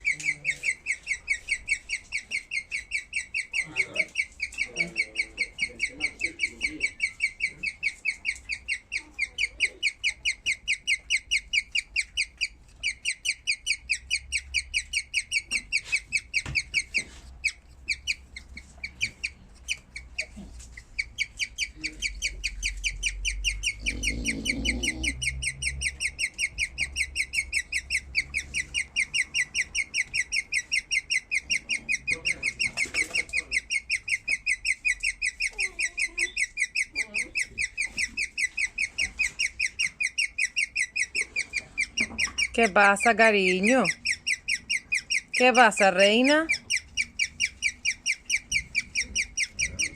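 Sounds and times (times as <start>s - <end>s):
guinea pig chirping: 0.0s - 49.9s.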